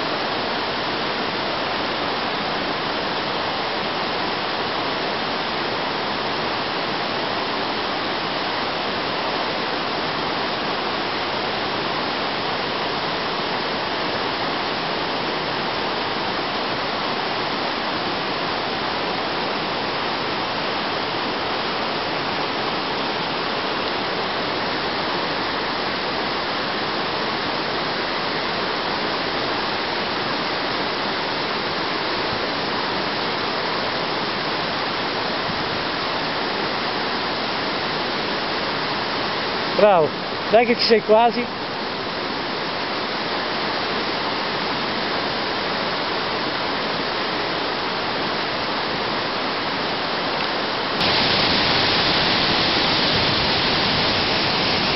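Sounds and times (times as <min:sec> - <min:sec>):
mountain torrent rushing: 0:00.0 - 0:54.9.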